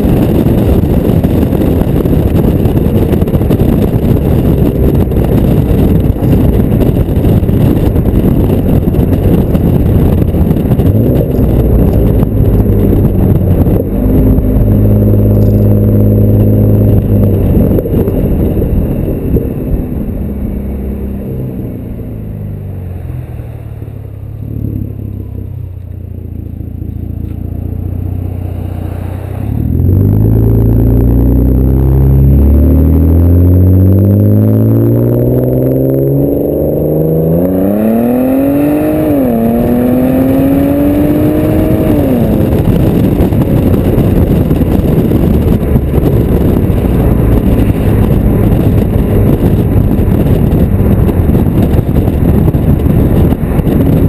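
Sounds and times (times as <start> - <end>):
car exhaust note: 0.0 - 54.0
wind buffeting microphone: 0.0 - 54.0.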